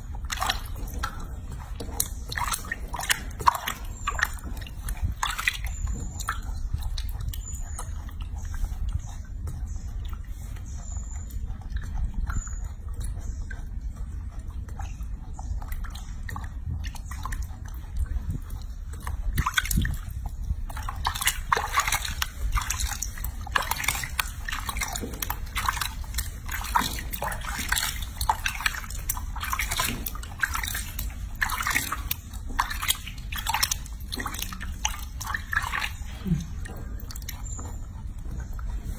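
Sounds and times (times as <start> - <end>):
water splashing: 0.0 - 11.2, 15.6 - 38.9
water sloshing in a basin: 0.0 - 38.9.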